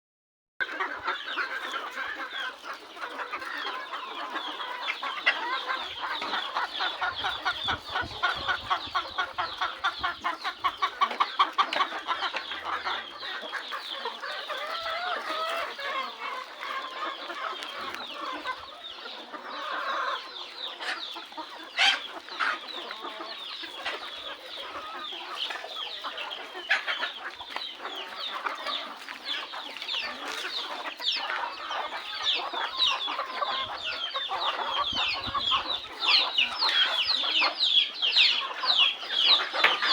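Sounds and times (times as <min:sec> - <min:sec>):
chickens clucking: 0:00.6 - 0:39.9.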